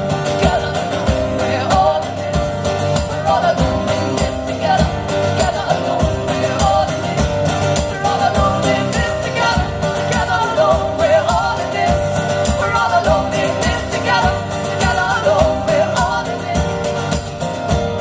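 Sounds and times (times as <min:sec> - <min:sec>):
women singing: 0:00.0 - 0:17.4
strummed acoustic guitar: 0:00.0 - 0:18.0.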